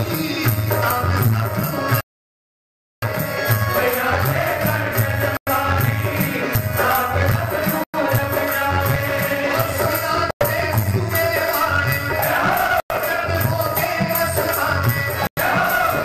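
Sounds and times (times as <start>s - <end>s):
hand percussion beat: 0.0s - 2.1s, 3.0s - 16.0s
shaken rattling percussion: 3.1s - 16.0s
devotional singing: 3.2s - 16.0s.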